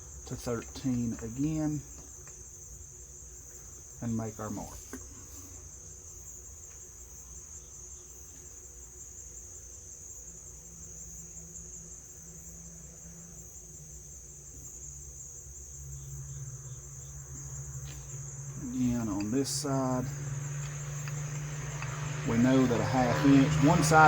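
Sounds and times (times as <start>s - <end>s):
crickets trilling: 0.0s - 24.0s
faint low hum: 0.0s - 24.0s.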